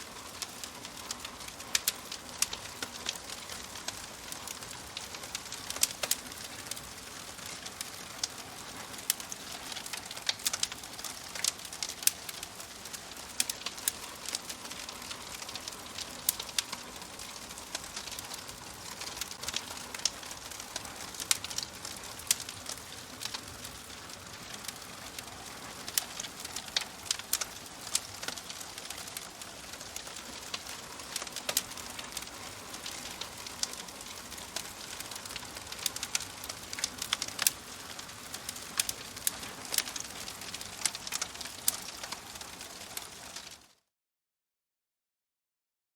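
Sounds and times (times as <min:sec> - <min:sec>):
fire crackling and popping: 0:00.0 - 0:43.7.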